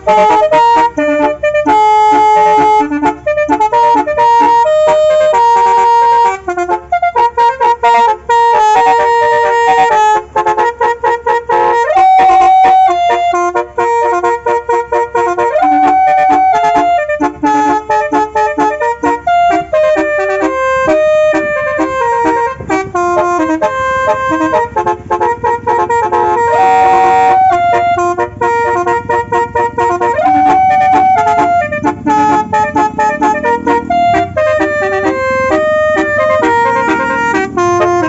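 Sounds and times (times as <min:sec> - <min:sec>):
multi-tone car horn melody: 0:00.0 - 0:38.0.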